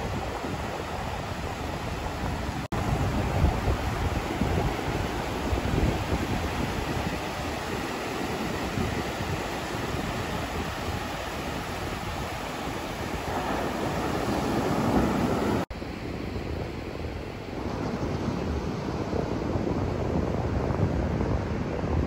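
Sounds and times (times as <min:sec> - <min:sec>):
ocean surf breaking on sand: 0:00.0 - 0:22.0
wind buffeting microphone: 0:00.0 - 0:22.0.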